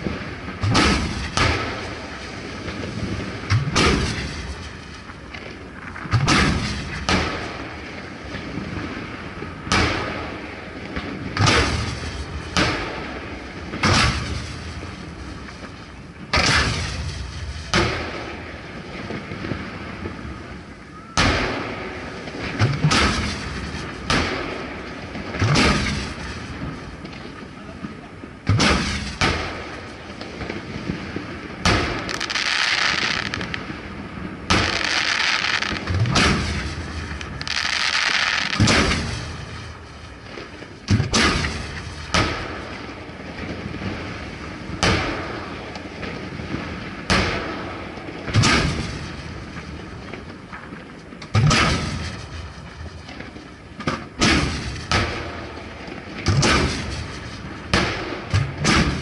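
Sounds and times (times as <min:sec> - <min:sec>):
fireworks booming with rolling echo: 0:00.0 - 0:59.0.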